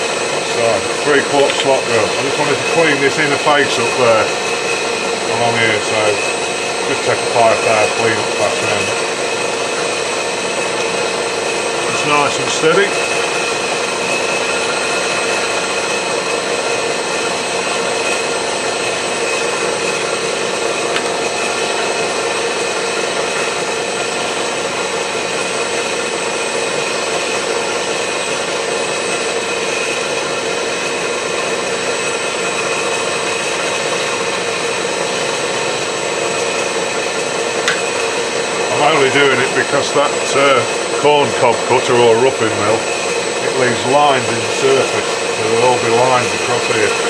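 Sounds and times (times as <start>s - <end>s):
milling machine cutter whining: 0.0s - 47.0s.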